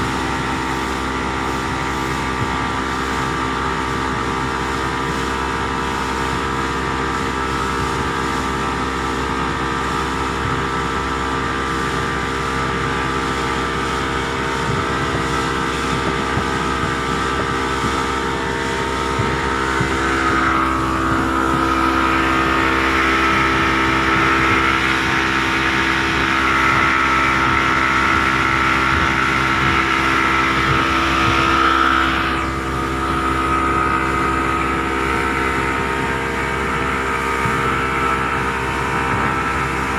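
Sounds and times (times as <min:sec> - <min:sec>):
boat engine humming: 0:00.0 - 0:39.9.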